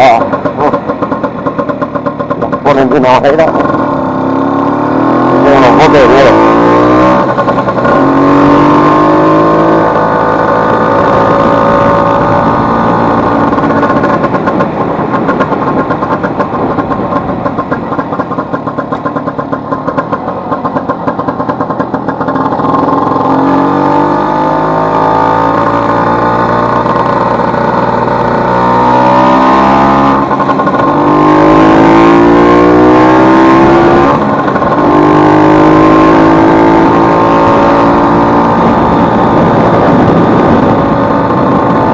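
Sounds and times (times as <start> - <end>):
scooter engine revving: 0.0 - 41.9.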